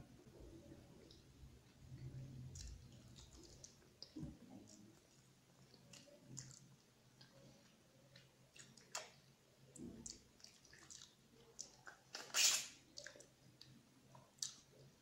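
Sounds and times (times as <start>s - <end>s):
mouth clicks and smacks chewing: 1.0s - 15.0s.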